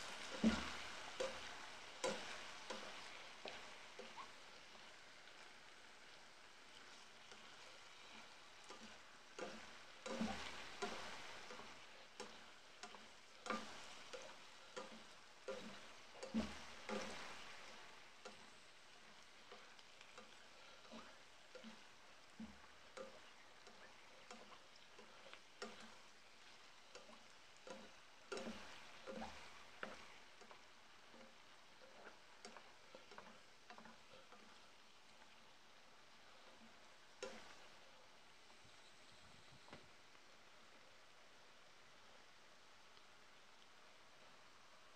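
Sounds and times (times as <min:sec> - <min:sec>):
spatula scraping and tapping pan: 0:00.0 - 0:06.2, 0:06.8 - 0:35.4, 0:36.4 - 0:37.8
cabbage sizzling in pan: 0:00.0 - 0:44.9.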